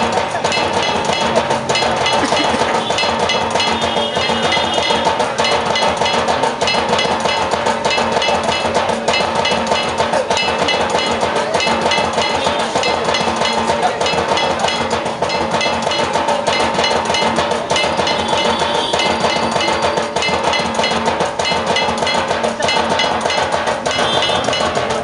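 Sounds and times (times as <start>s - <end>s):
drumming: 0.0s - 25.0s
metallic gong clanging: 0.0s - 25.0s.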